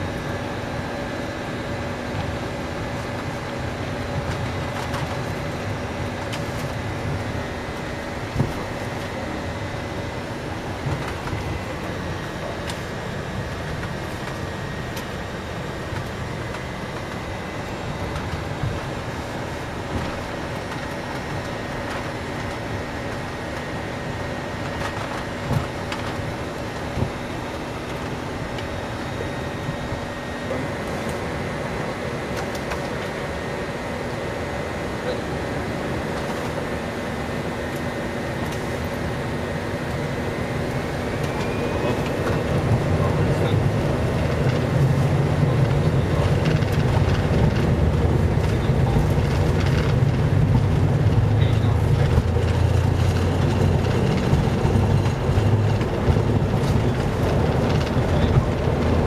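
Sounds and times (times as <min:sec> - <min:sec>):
jet cockpit hum: 0:00.0 - 0:59.0.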